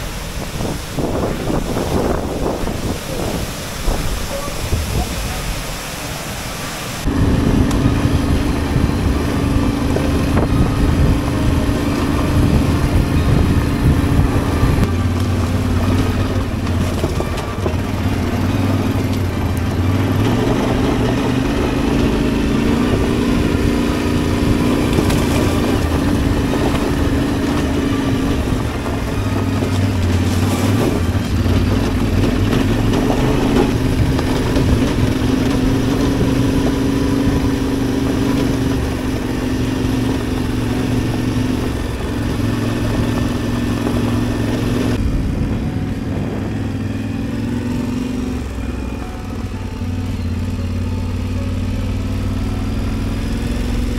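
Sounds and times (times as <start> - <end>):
motorcycle engine revving: 7.0 - 53.9.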